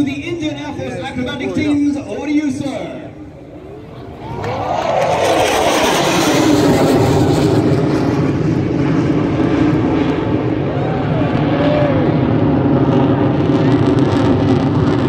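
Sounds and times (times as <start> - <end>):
fighter jet flying past: 0.0 - 15.0.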